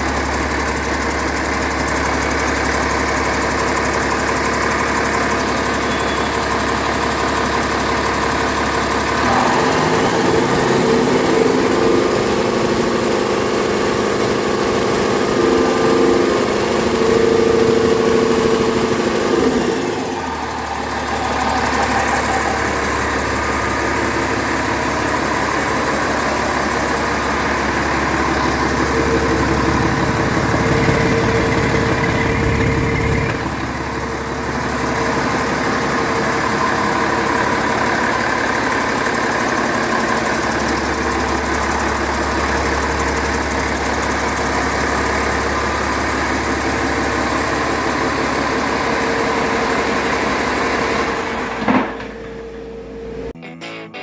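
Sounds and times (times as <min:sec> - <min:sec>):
diesel engine running: 0:00.0 - 0:53.4.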